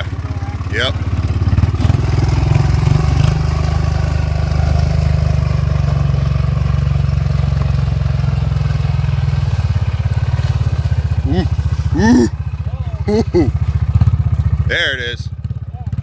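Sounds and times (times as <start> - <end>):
atv engine running at low revs: 0.0 - 16.0.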